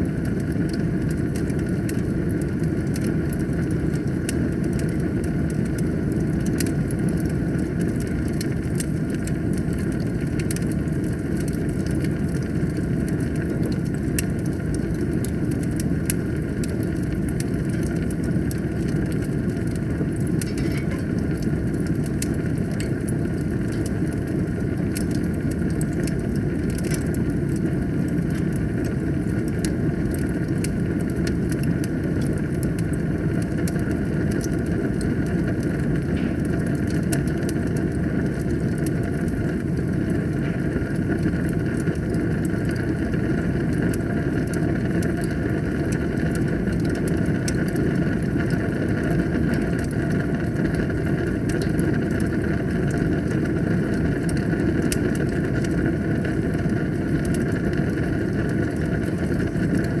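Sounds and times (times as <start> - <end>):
wood fire crackling: 0.0 - 60.0.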